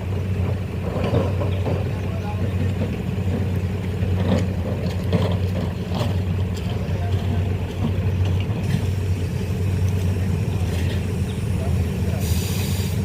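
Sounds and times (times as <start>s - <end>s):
large engine droning: 0.0s - 13.0s.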